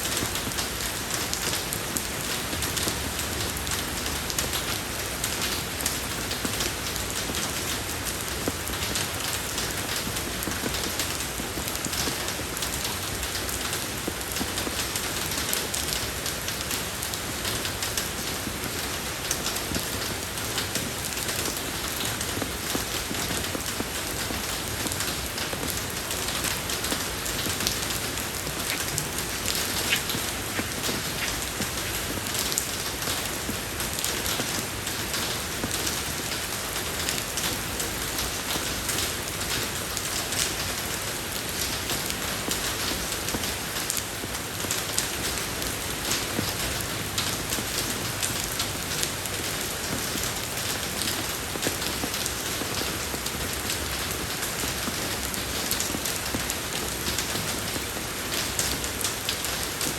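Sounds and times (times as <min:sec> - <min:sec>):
rain falling on a road: 0:00.0 - 0:59.9.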